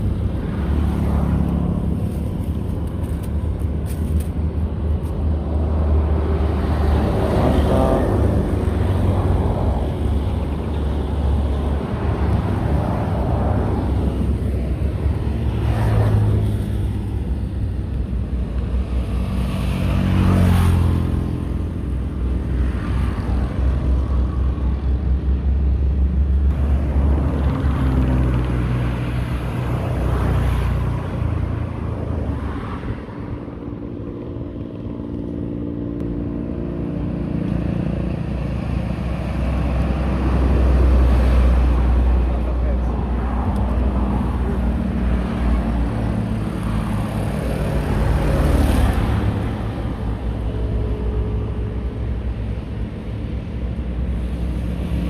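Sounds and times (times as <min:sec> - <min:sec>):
constant low traffic rumble: 0:00.0 - 0:55.0
vehicles passing on highway: 0:00.0 - 0:55.0.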